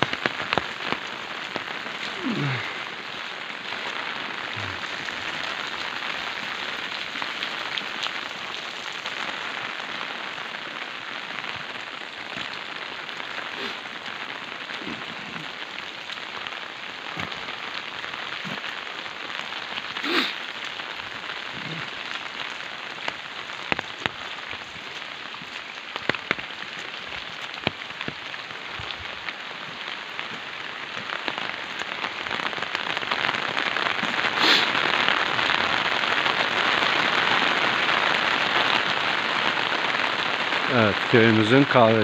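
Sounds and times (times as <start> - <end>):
heavy rain falling: 0.0 - 42.0
raindrops ticking on surfaces: 0.0 - 42.0.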